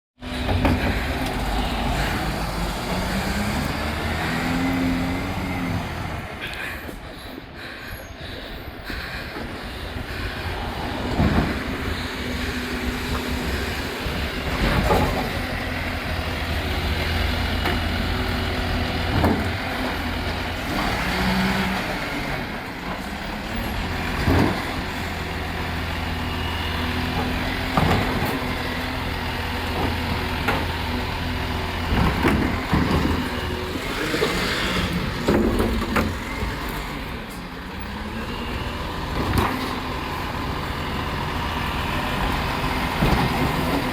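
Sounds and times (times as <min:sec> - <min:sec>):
diesel truck engine running: 0:00.2 - 0:43.9.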